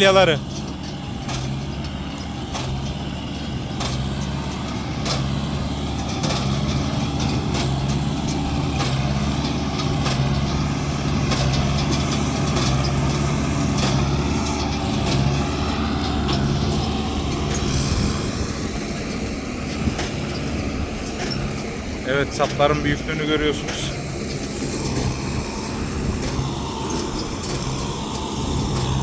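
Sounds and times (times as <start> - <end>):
hay baler knocking: 0.0 - 29.0
tractor engine running: 0.0 - 29.0.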